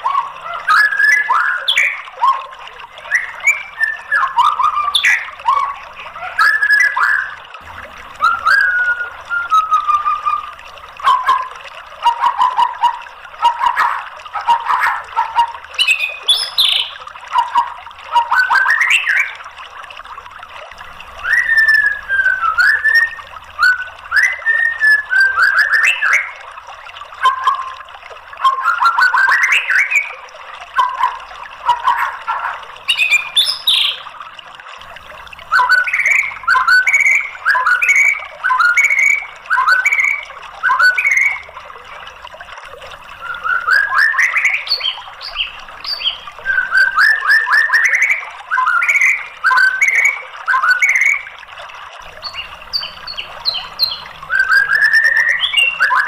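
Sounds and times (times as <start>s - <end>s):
bird singing whistled phrases: 0.0s - 7.4s, 8.2s - 19.4s, 21.2s - 26.4s, 28.4s - 30.2s, 30.8s - 34.0s, 35.5s - 41.5s, 43.2s - 51.3s, 52.2s - 56.0s.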